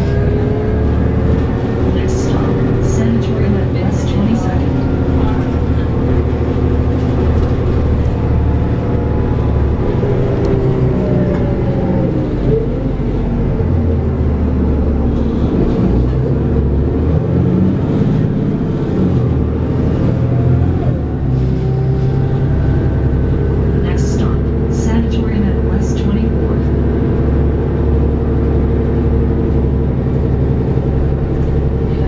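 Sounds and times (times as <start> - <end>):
bus diesel engine driving: 0.0 - 32.0.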